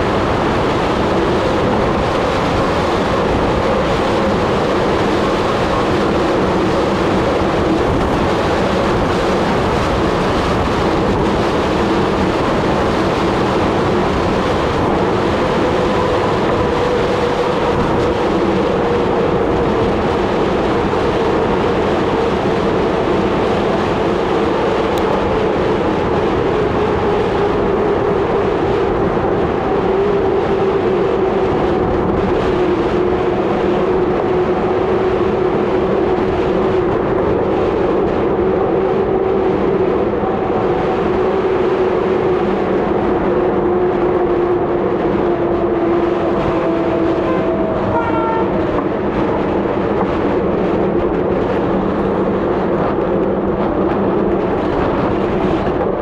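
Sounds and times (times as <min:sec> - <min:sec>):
wind rushing on microphone: 0:00.0 - 0:56.0.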